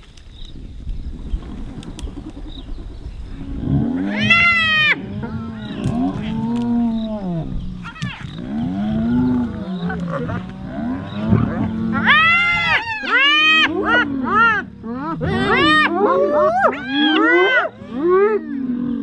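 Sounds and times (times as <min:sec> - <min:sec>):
animals moaning: 0:01.4 - 0:19.0.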